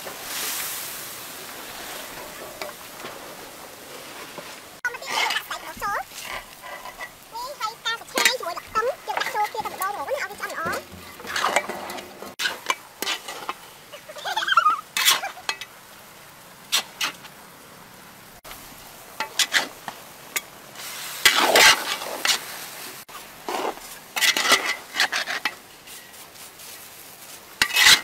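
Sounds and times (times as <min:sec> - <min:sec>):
light sizzle: 0:00.0 - 0:28.0
metal spatula scraping wok: 0:01.6 - 0:15.7, 0:16.6 - 0:17.3, 0:19.2 - 0:26.9, 0:27.5 - 0:28.0.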